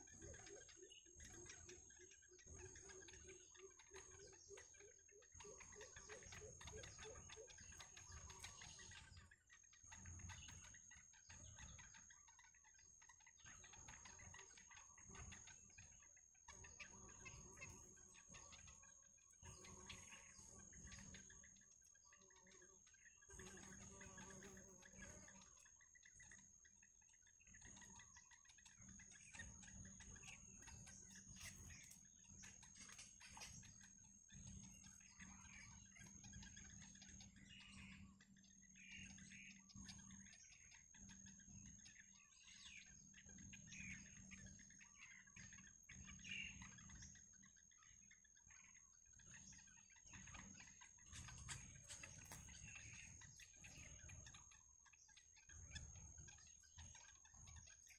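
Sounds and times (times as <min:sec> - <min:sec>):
faint bird chirps: 0:00.0 - 0:57.9.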